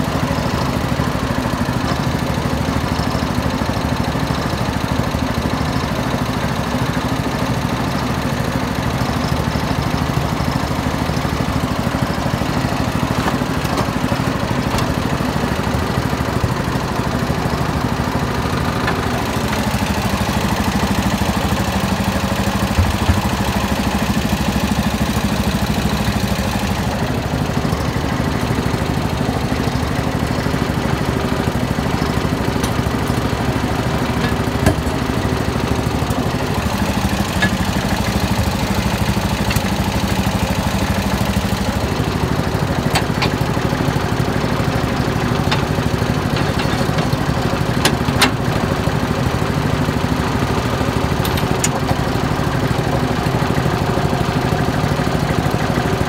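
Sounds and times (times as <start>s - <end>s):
small engine idling: 0.0s - 56.0s.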